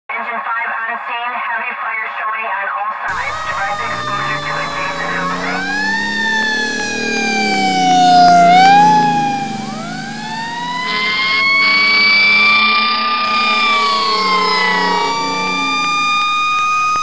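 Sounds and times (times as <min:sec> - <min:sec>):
fire truck siren wailing: 0:03.1 - 0:17.0
steady siren tone: 0:03.1 - 0:17.0.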